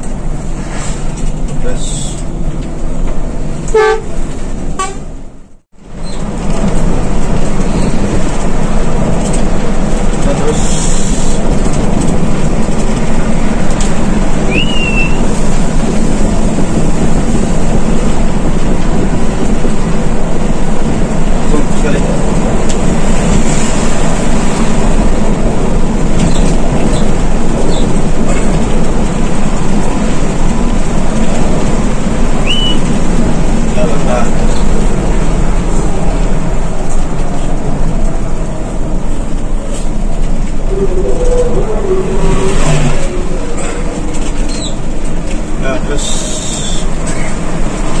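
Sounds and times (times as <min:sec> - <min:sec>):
bus engine and road noise: 0:00.0 - 0:48.0.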